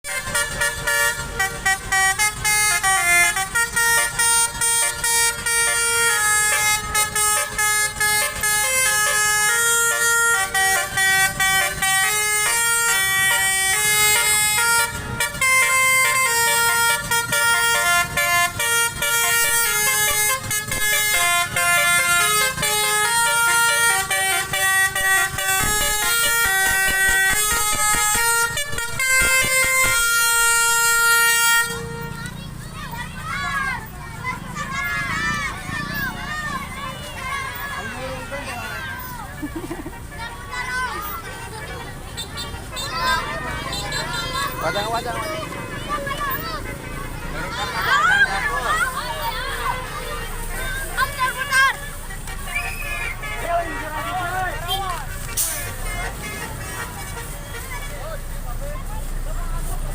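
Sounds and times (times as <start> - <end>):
bus air horn playing a tune: 0.0 - 32.4, 39.0 - 59.8.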